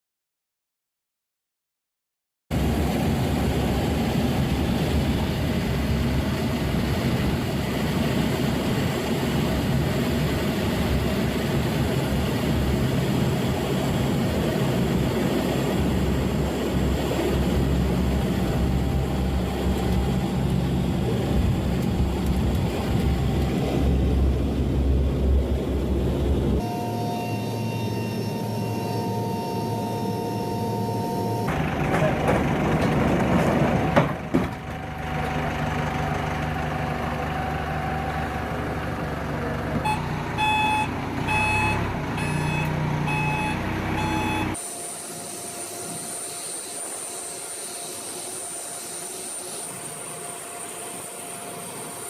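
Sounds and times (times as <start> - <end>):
turboprop engines droning: 2.5 - 52.0.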